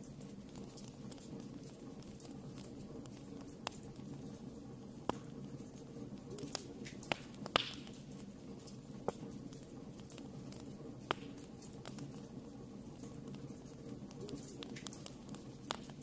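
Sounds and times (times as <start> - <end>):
low rush of flames: 0.0 - 16.0
wood fire crackling and popping: 0.0 - 16.0.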